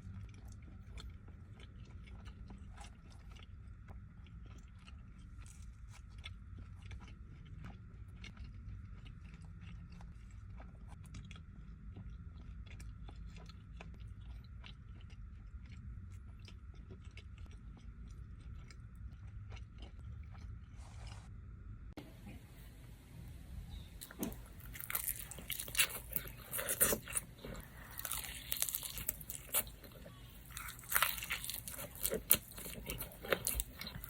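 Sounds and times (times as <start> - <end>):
chewing pizza: 0.0 - 21.2, 23.7 - 34.0.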